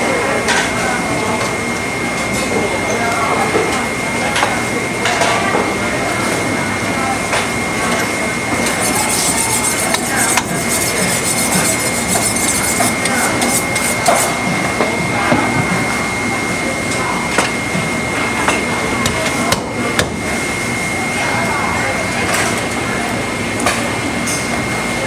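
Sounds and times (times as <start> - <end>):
busy background noise: 0.0 - 25.0.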